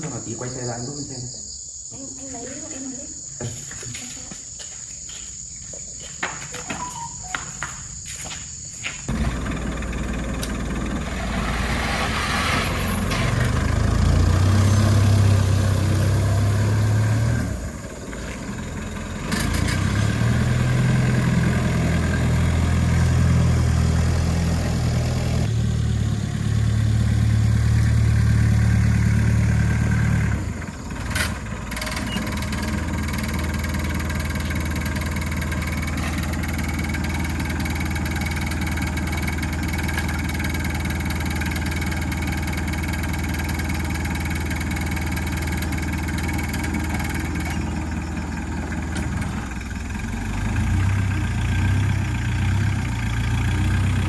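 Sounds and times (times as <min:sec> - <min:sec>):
agricultural vehicle engine running: 0:06.8 - 0:07.4, 0:09.0 - 0:54.0.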